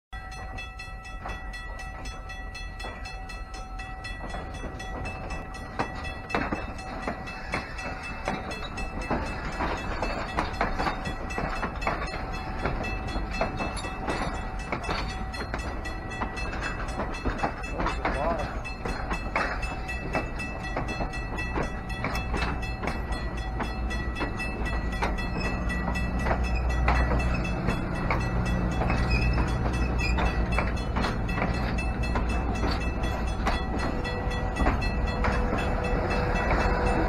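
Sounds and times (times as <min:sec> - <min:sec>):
low train rumble: 0:00.2 - 0:37.0
train wheels clicking on track: 0:00.2 - 0:37.0.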